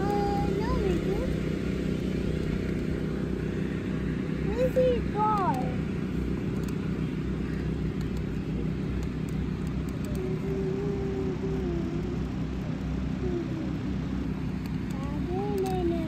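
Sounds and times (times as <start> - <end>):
car driving slowly: 0.0 - 16.0.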